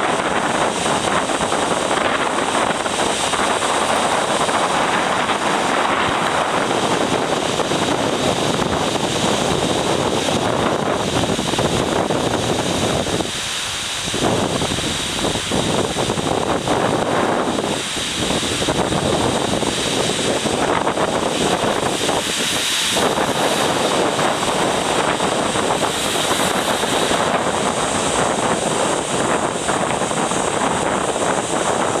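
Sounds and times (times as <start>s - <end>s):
waves breaking on shore: 0.0s - 32.0s
wind blowing on microphone: 0.0s - 32.0s.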